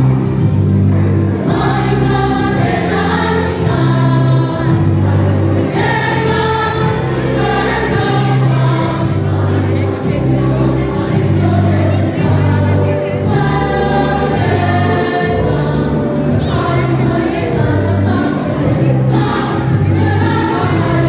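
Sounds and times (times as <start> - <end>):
children's choir singing: 0.0 - 21.0
sustained low accompaniment notes: 0.0 - 21.0.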